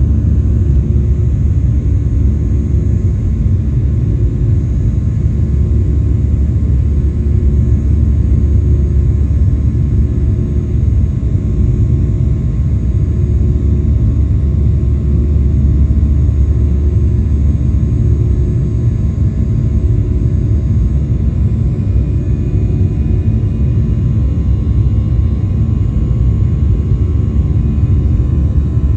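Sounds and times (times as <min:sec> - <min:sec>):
jet engines roaring in cabin: 0:00.0 - 0:28.9.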